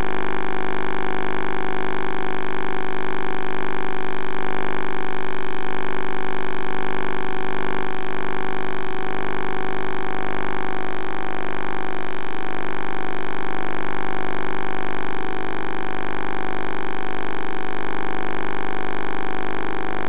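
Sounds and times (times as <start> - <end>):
electrical hum and buzz: 0.0 - 20.0.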